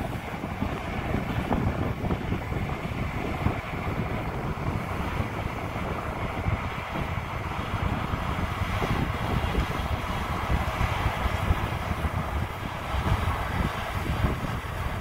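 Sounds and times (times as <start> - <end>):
combine harvester running: 0.0 - 15.0
wind buffeting microphone: 0.0 - 15.0.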